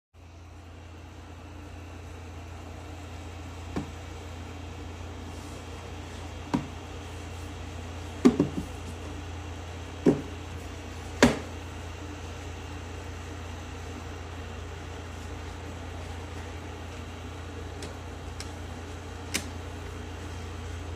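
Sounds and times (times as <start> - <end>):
steady low hum: 0.2 - 20.9.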